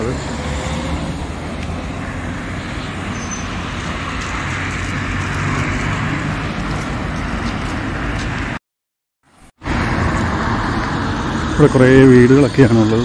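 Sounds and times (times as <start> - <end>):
cars driving past: 0.0 - 8.6, 9.3 - 13.0.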